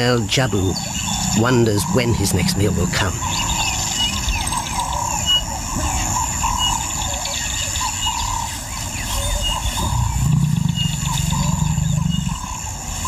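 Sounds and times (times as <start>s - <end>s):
insects buzzing: 0.0s - 13.0s
warbling bird calls: 0.0s - 13.0s.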